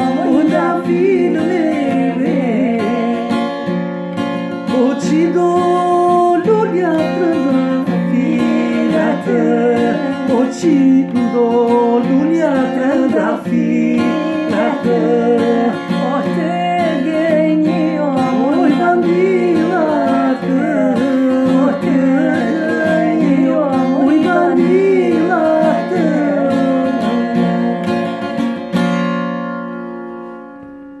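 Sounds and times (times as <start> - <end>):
man and woman singing: 0.0 - 3.5, 4.6 - 28.4
strummed acoustic guitar: 0.0 - 31.0.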